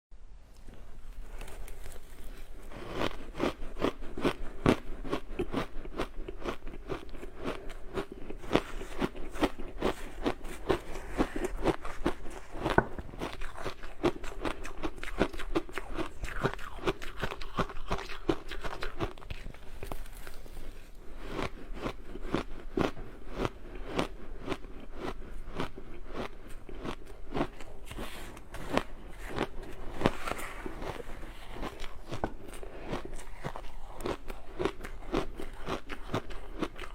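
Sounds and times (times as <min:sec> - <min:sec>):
person crunching ice: 0:01.4 - 0:20.6, 0:21.2 - 0:36.9.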